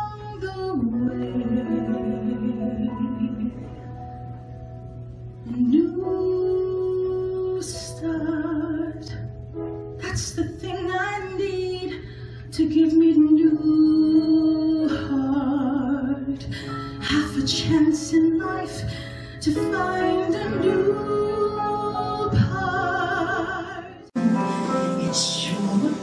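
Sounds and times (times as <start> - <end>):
woman singing with vibrato: 0.0 - 3.8, 5.5 - 9.2, 10.0 - 26.0.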